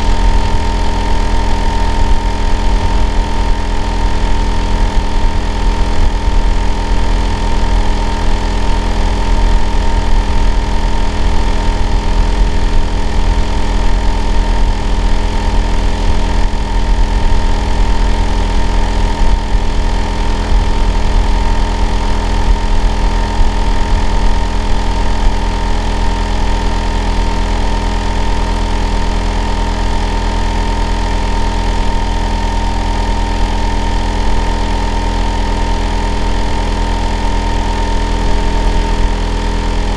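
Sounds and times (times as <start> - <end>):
high steady whine: 0.0 - 39.9.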